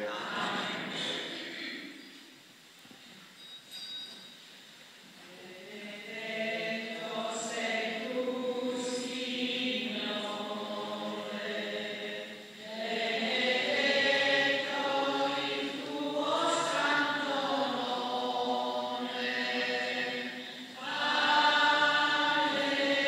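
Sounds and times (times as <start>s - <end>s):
voices singing a slow hymn: 0.0s - 2.0s, 5.2s - 23.0s.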